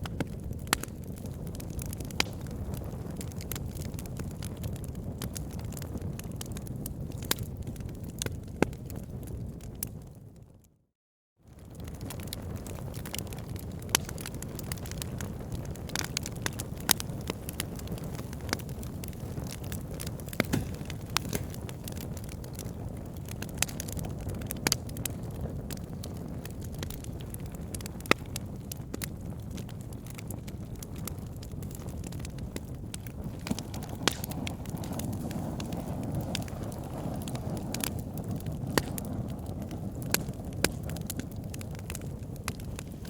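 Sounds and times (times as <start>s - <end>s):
fire crackling and popping: 0.0s - 10.4s, 11.5s - 43.0s
low rumble of flames: 0.0s - 10.7s, 11.5s - 43.0s.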